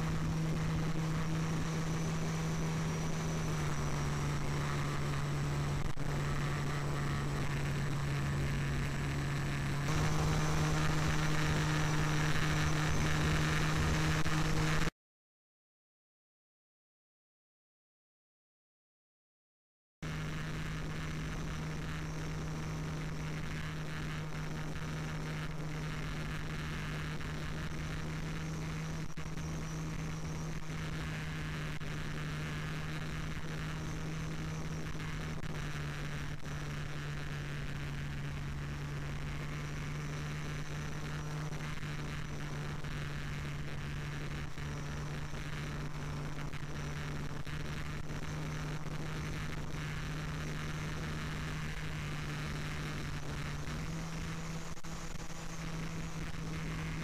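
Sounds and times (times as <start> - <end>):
model plane motor droning: 0.0 - 14.9, 20.1 - 57.0.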